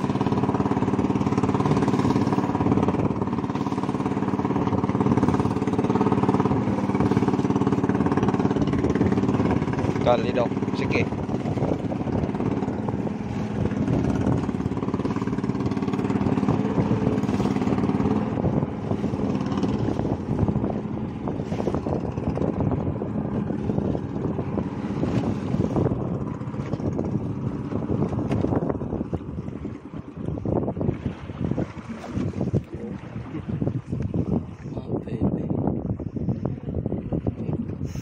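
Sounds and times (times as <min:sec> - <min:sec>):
boat engine running: 0:00.0 - 0:38.0
water splashing against hull: 0:00.0 - 0:38.0
wind: 0:00.0 - 0:38.0.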